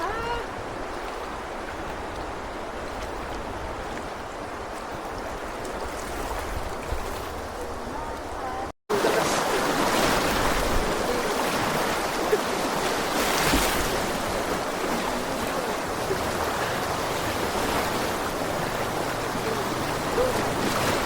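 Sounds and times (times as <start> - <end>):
fast-flowing water rushing: 0.0 - 21.0.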